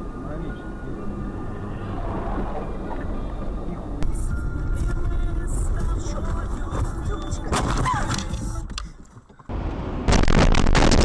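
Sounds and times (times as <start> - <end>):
car driving noise: 0.0 - 10.4
road noise: 0.0 - 10.4.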